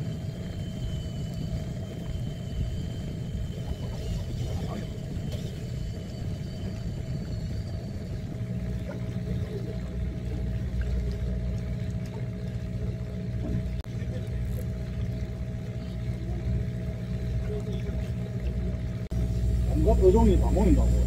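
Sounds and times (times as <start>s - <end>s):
boat engine rumble: 0.0s - 21.0s
even hum: 0.0s - 21.0s.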